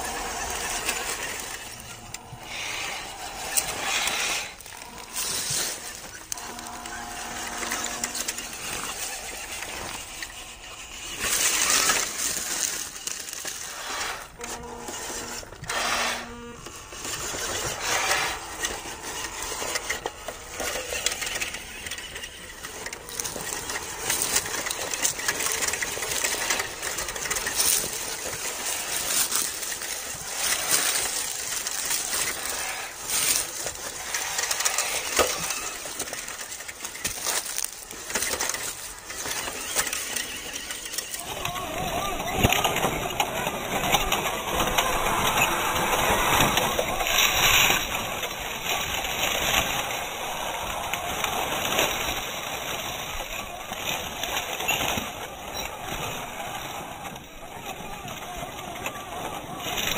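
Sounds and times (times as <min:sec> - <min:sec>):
plastic body rattling: 0:00.0 - 0:59.9
tyres crunching leaves and gravel: 0:00.0 - 0:59.9.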